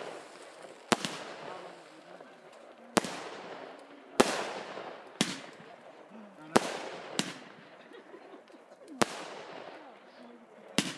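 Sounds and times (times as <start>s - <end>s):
fireworks bursting: 0.0s - 10.9s.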